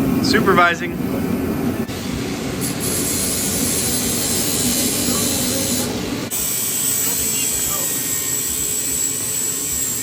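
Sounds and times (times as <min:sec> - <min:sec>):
welder arc crackling and buzzing: 0:01.8 - 0:10.0.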